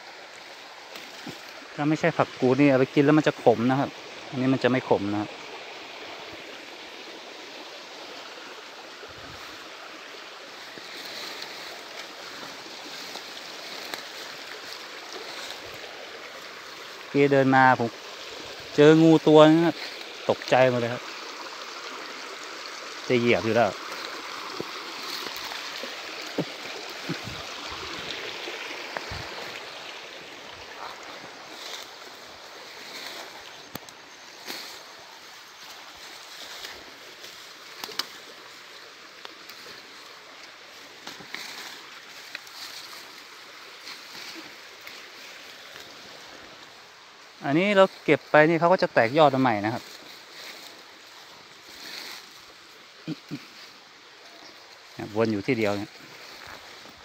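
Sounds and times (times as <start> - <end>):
footsteps rustling through ferns: 0.0 - 22.4, 23.1 - 57.0
running water rushing: 0.0 - 57.0.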